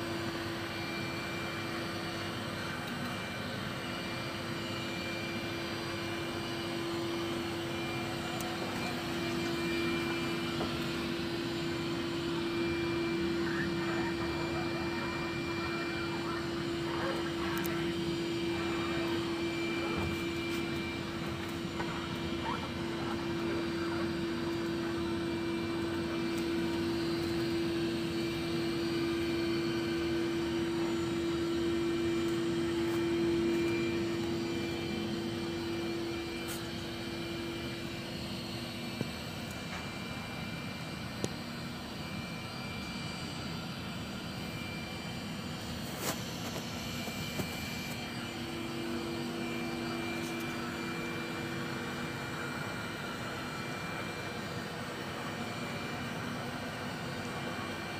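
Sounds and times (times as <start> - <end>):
suction fan whine: 0.0 - 57.9.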